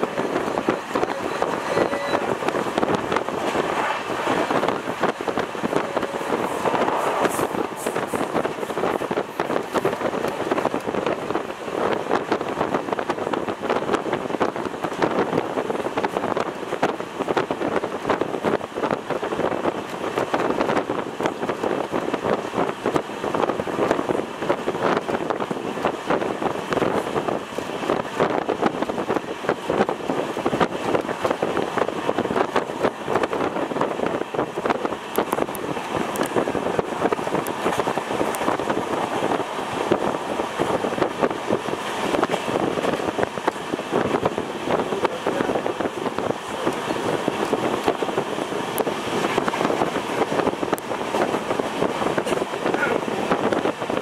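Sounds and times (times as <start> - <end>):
train wheels clattering on rails: 0.0 - 54.0
wind rushing: 0.0 - 54.0.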